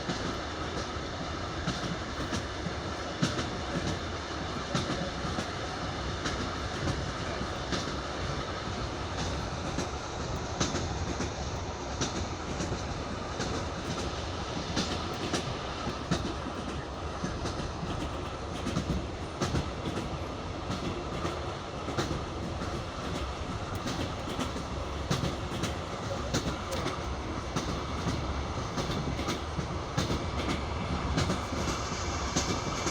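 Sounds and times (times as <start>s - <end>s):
train rumble: 0.0s - 32.9s
wheels clickety-clack on rail joints: 0.0s - 32.9s.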